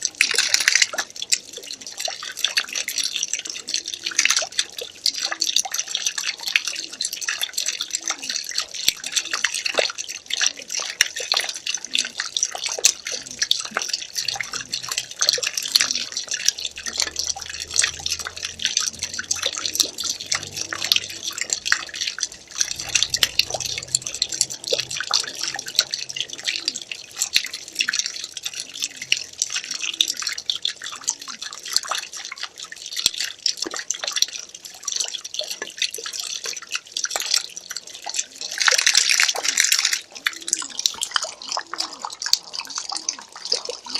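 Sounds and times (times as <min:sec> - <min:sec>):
water pouring into water: 0:00.0 - 0:43.9.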